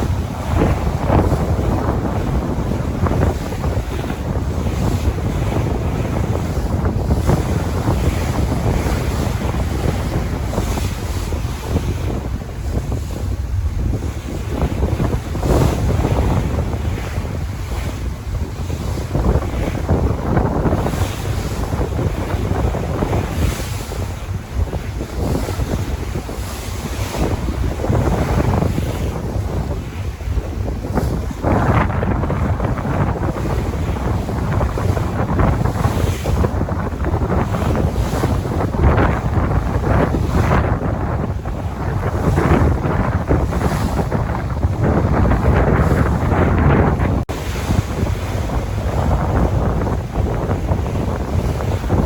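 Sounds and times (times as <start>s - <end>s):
sea waves washing: 0.0s - 52.0s
wind buffeting microphone: 0.0s - 52.0s.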